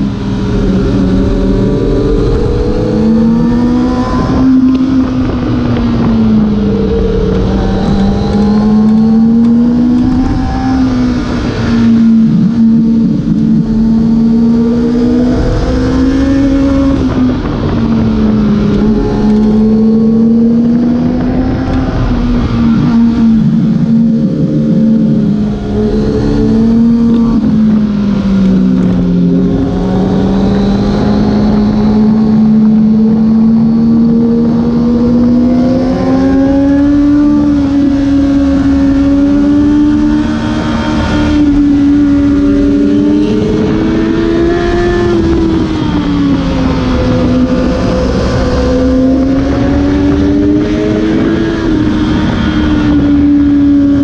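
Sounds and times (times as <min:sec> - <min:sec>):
motorcycle engine revving: 0:00.0 - 0:54.0
wind noise on microphone: 0:00.0 - 0:54.0.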